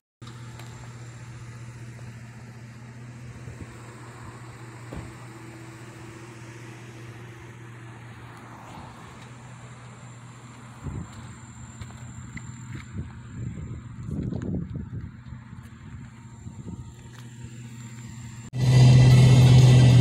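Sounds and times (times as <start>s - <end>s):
car engine running: 0.2s - 20.0s.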